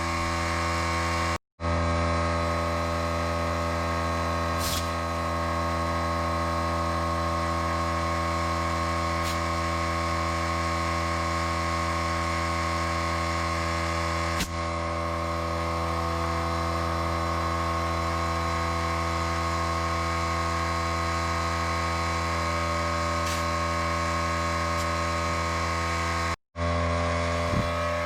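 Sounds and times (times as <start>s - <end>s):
air compressor running: 0.0s - 28.0s.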